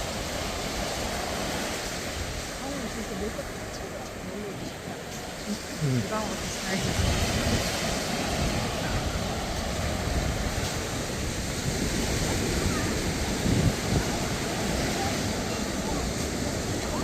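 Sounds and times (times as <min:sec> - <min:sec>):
surf washing onto beach: 0:00.0 - 0:17.0
wind buffeting microphone: 0:00.0 - 0:17.0
faint voices: 0:02.4 - 0:17.0.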